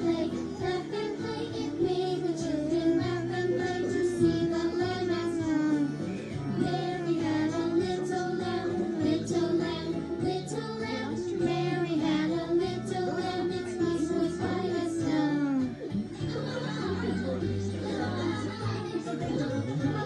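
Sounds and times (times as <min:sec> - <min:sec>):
children's song with instrumental backing: 0:00.0 - 0:20.0.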